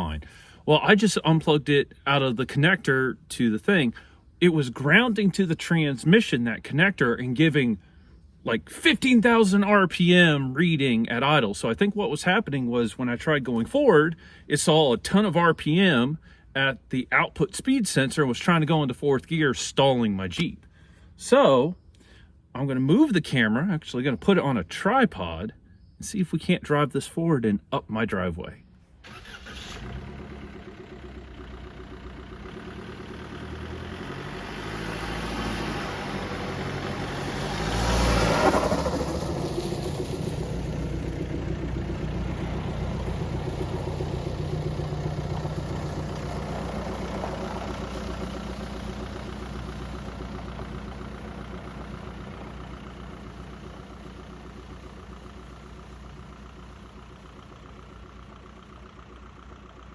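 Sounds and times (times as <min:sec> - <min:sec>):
diesel engine driving off: 0:00.0 - 0:19.6, 0:29.0 - 0:59.9.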